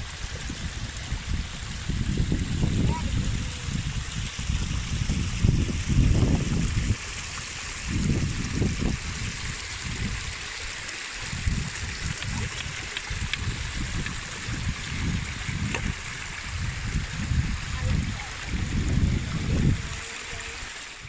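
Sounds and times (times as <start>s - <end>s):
wind buffeting microphone: 0.0s - 20.4s
rushing water: 0.0s - 21.0s.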